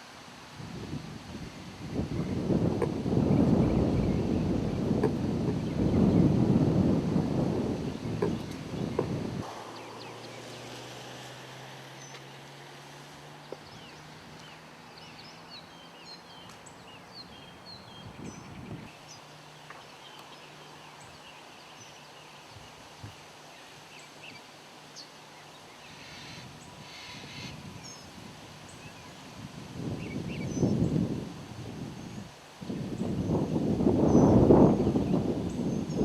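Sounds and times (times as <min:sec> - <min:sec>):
birds chirping: 0:01.4 - 0:28.1, 0:28.7 - 0:31.1, 0:31.8 - 0:36.0.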